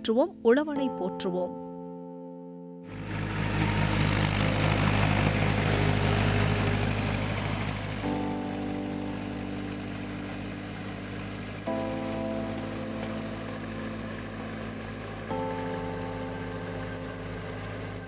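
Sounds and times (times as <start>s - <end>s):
sustained music notes: 0.0s - 18.0s
tractor engine running: 2.9s - 18.0s.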